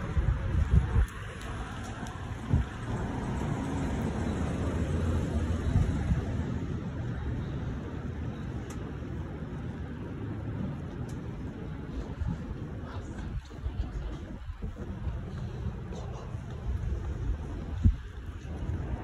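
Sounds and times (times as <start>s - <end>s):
low rumble of street noise: 0.0s - 19.0s.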